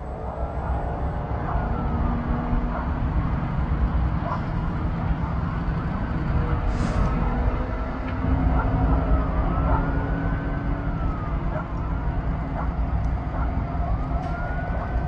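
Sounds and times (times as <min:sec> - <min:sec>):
distant siren: 0:00.0 - 0:15.0
low rumble of road vehicles: 0:00.0 - 0:15.0.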